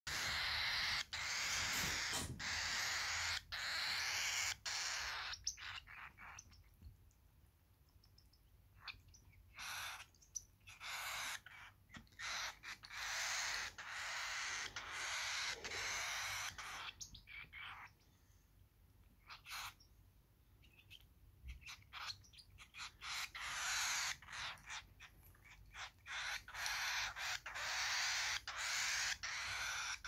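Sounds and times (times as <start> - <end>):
cockatiel chick begging calls: 0.1 - 6.6, 8.8 - 18.0, 19.2 - 19.8, 20.6 - 30.0.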